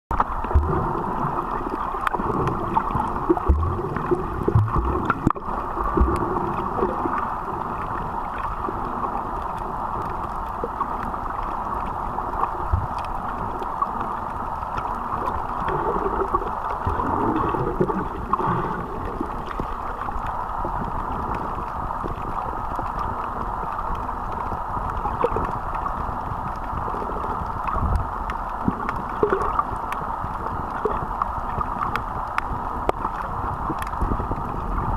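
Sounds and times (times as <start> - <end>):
muffled underwater rush: 0.1 - 34.9
water gurgles: 0.1 - 34.9.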